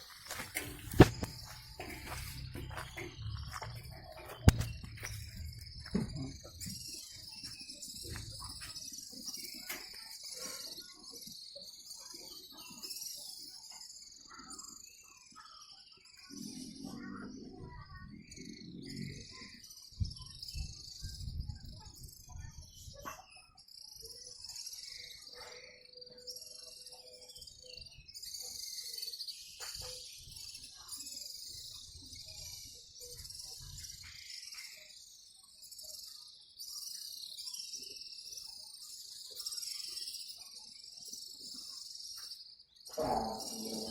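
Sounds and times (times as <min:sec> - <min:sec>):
flock of birds twittering: 0:00.0 - 0:43.9.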